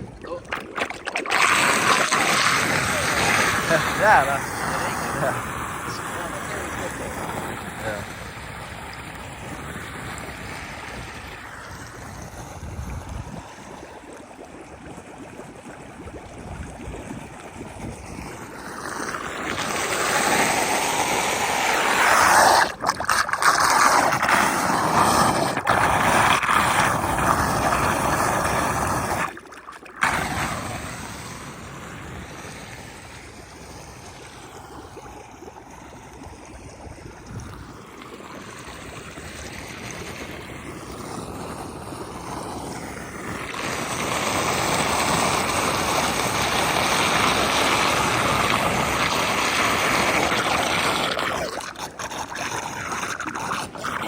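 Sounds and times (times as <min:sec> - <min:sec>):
water gurgling into street drain: 0:00.0 - 0:54.0.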